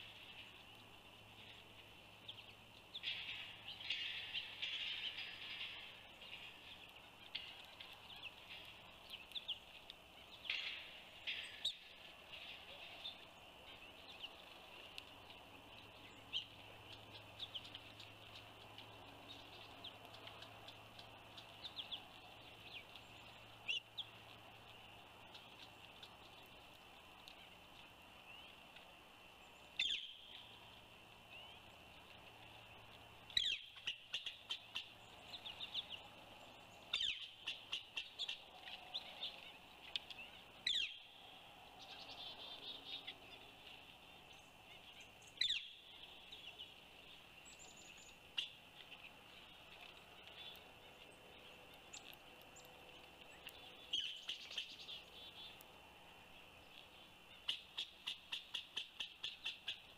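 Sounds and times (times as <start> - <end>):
small birds calling and chirping: 0.0 - 59.9.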